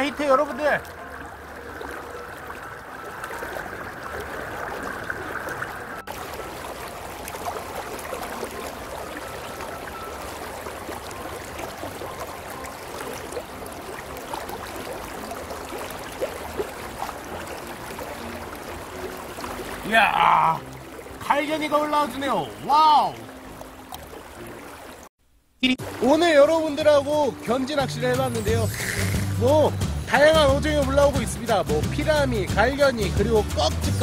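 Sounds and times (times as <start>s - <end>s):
river rushing: 0.0s - 32.4s.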